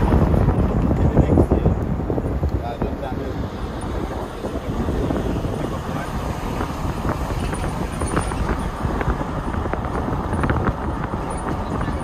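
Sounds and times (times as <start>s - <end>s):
car engine rumble: 0.0s - 12.0s
tyres on rough road: 0.0s - 12.0s
wind noise: 0.0s - 12.0s.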